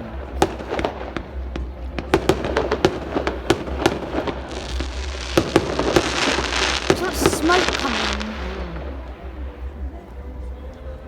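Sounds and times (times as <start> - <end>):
fireworks bangs and crackles: 0.0 - 9.8
low rumble: 0.0 - 10.4.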